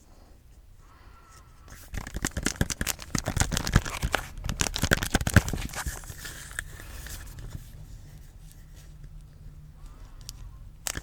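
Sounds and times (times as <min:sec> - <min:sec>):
rapid crinkly tapping: 0:01.6 - 0:11.0.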